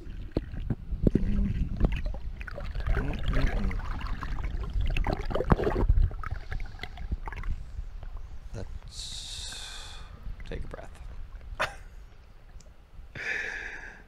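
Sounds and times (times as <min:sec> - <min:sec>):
water splashing and sloshing: 0:00.0 - 0:08.9, 0:10.0 - 0:12.9.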